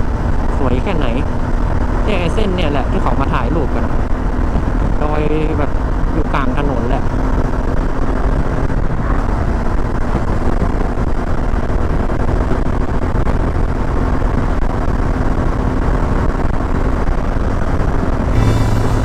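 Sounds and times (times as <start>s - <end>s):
motorcycle engine running: 0.0s - 12.5s, 15.1s - 19.0s
wind rushing over microphone: 0.0s - 19.0s.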